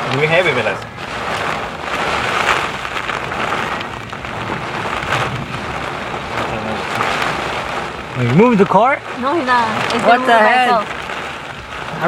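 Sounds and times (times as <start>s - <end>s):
heavy rain pouring: 0.0s - 12.0s
wind gusts: 0.0s - 12.0s.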